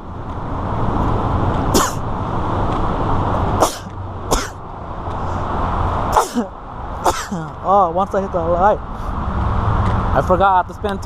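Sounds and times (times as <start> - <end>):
road and engine noise inside car: 0.0 - 11.0.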